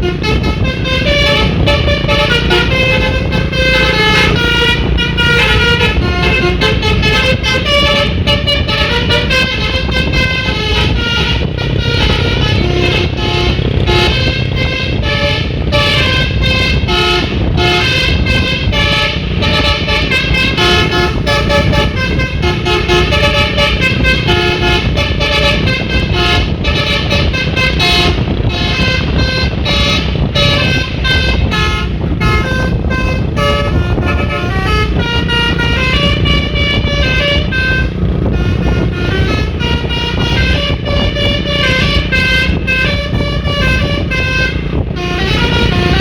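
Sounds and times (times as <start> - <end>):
electric air horns playing melody: 0.0 - 46.0
low engine rumble: 0.0 - 46.0.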